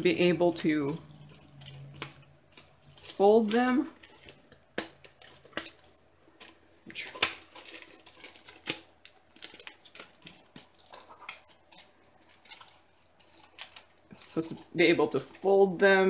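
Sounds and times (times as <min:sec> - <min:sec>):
card rustling: 0:00.0 - 0:15.8
plastic sleeve crinkling: 0:00.0 - 0:16.0.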